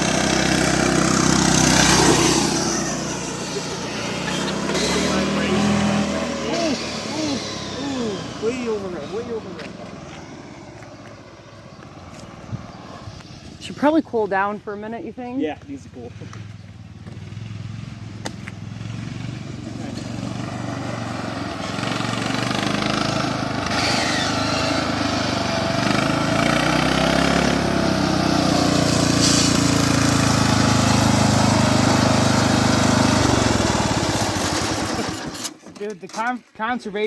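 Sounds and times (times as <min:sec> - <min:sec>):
riding lawn mower engine: 0:00.0 - 0:37.0.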